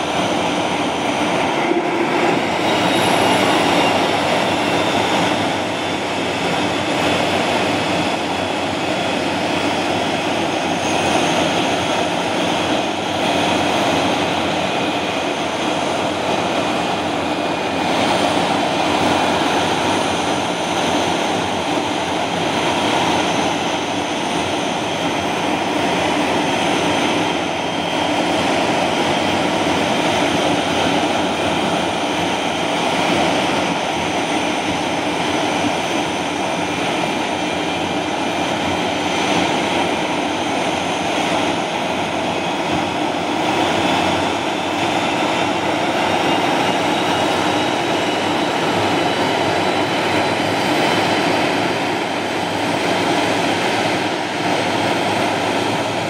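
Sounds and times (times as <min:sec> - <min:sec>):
high turbine whine: 0:00.0 - 0:56.0
jet engine running: 0:00.0 - 0:56.0.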